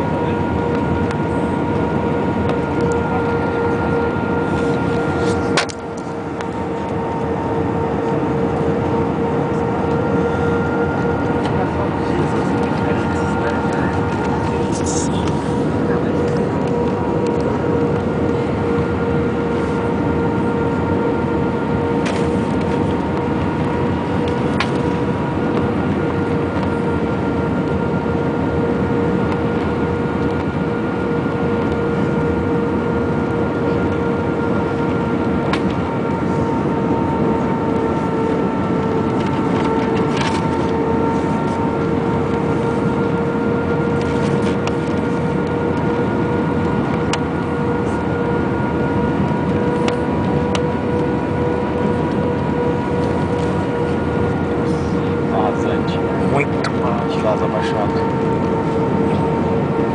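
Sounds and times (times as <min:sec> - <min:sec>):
rumble of engines and airflow: 0:00.0 - 0:59.9
steady whine: 0:00.0 - 0:59.9.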